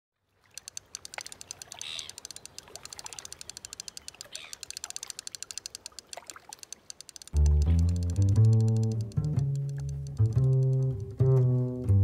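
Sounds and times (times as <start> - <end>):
fishing reel ratchet clicking: 0.5 - 11.2.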